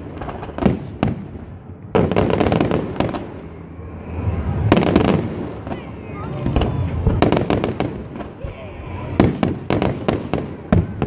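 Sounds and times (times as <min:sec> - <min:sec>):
fireworks bursting in sharp bangs: 0:00.0 - 0:03.4, 0:04.6 - 0:11.0
rapid crackling fireworks reports: 0:00.0 - 0:11.0.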